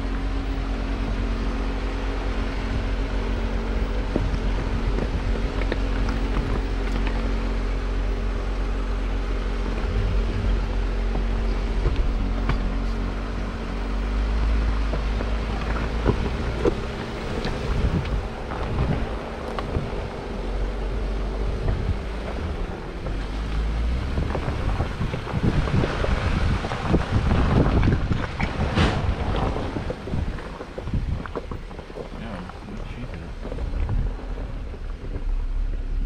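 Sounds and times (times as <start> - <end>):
vehicle engine running: 0.0 - 36.0
wind on microphone: 2.5 - 7.0, 9.5 - 36.0
knocks rattles and crunches: 2.6 - 8.5, 9.6 - 36.0.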